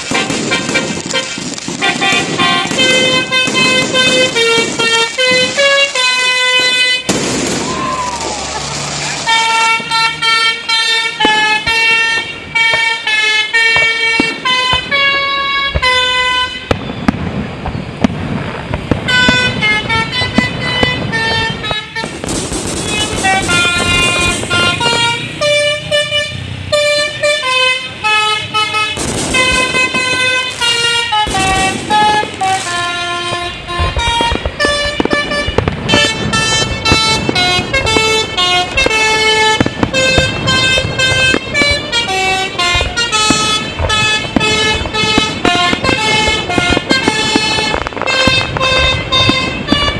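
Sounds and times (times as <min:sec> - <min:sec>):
musical air horn melody: 0:00.0 - 0:07.2, 0:09.3 - 0:16.9, 0:18.9 - 0:49.9.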